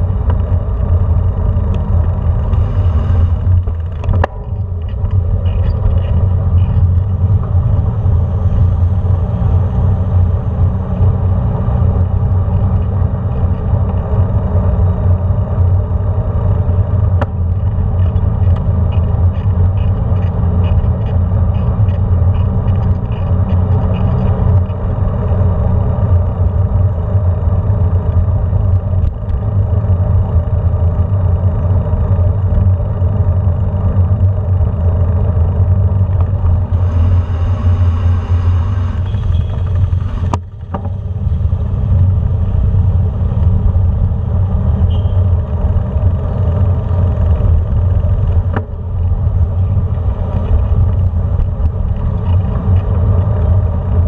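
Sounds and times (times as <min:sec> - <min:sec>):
traffic close by: 0:00.0 - 0:54.0
wind noise: 0:00.0 - 0:54.0.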